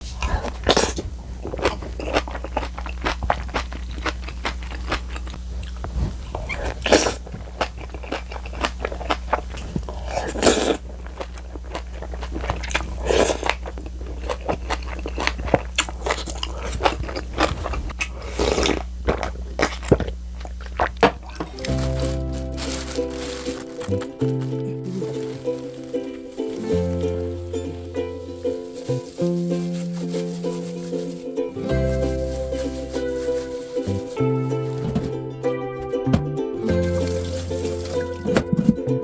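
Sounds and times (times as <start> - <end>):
person crunching food: 0.0 - 35.3, 36.7 - 38.8
steady low hum: 0.0 - 38.1.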